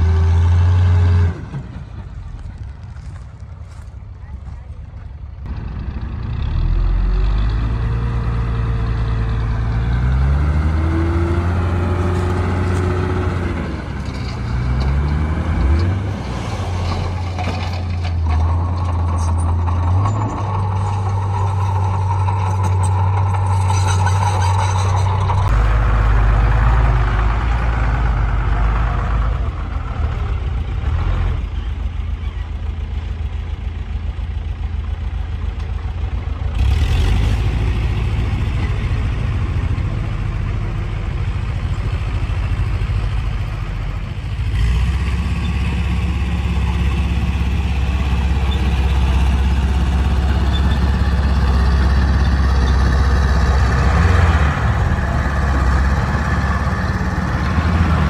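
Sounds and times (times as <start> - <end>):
diesel engine of earthmoving machine: 0.0 - 58.0.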